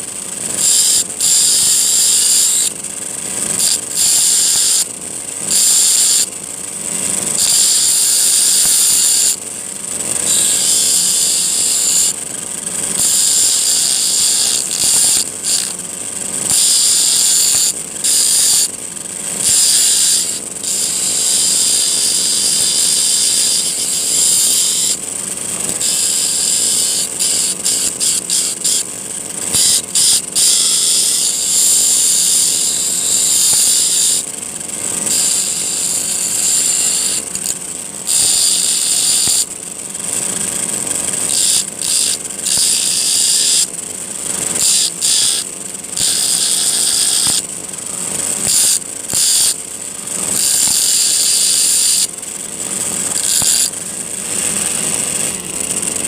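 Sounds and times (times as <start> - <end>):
high-pitched grinding hiss: 0.0 - 56.0.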